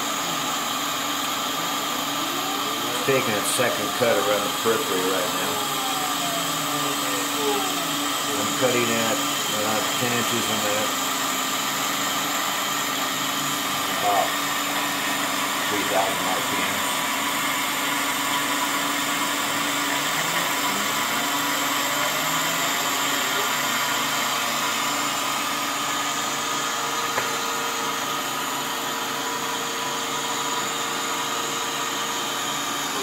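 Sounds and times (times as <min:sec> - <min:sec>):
router spindle cutting wood: 0:00.0 - 0:33.0.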